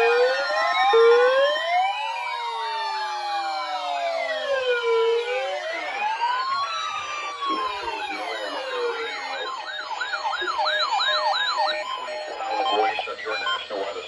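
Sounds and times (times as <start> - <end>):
siren wailing: 0.0 - 14.0
siren yelping sweeps: 0.0 - 14.0.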